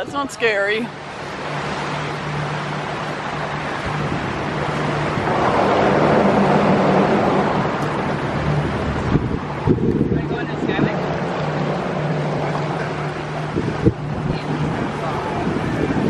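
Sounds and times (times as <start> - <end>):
motorboat engine running: 0.0 - 16.0
water and wind rushing: 0.0 - 16.0.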